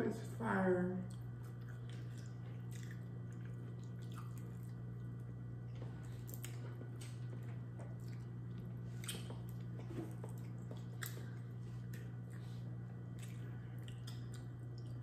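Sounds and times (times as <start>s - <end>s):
low steady hum: 0.0s - 15.0s
wet chewing of seafood: 1.1s - 15.0s.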